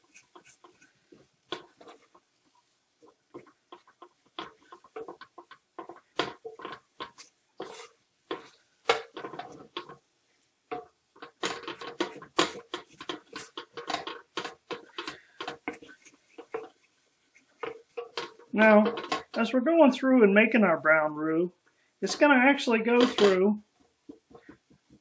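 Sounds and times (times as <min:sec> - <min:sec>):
utensil scraping a pan: 0:00.0 - 0:20.0, 0:20.7 - 0:25.0.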